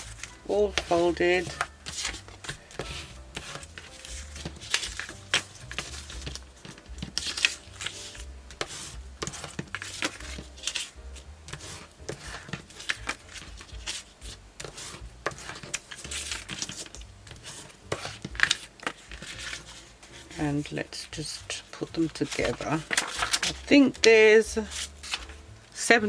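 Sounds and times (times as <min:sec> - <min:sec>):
paper rustling: 0:00.0 - 0:26.0.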